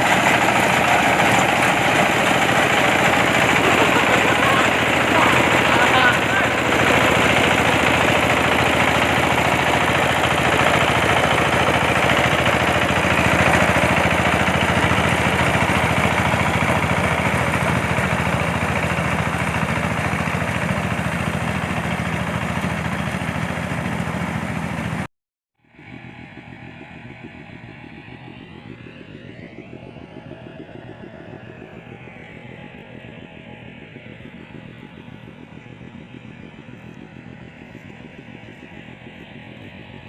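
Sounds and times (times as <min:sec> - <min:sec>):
combine harvester running: 0:00.0 - 0:25.1, 0:25.7 - 0:40.0.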